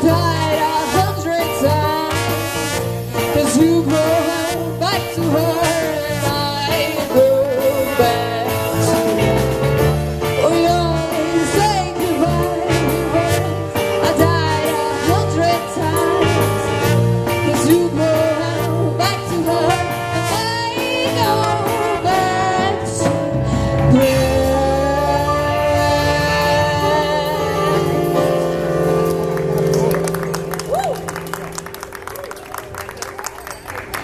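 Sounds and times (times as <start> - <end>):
rock and roll band playing: 0.0 - 34.0.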